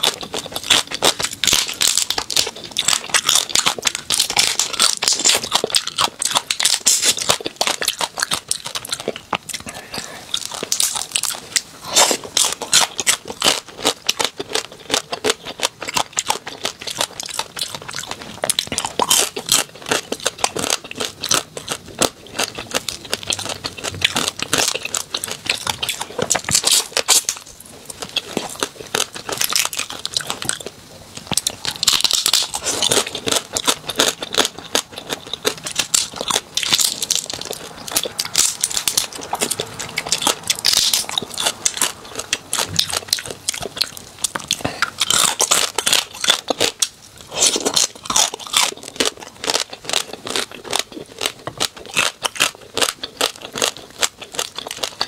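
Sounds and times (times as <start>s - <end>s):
crab shells crunching: 0.0s - 55.0s.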